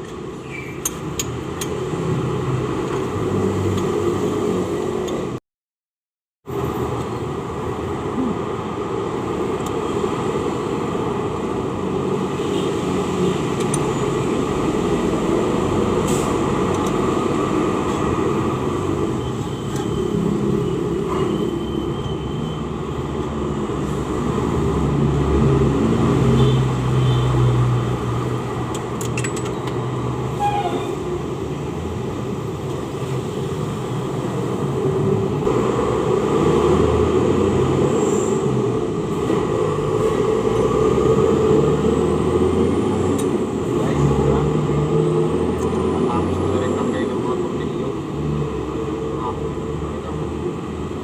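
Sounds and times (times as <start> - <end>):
motor vehicles rumbling: 0.0 - 5.4, 6.4 - 51.0.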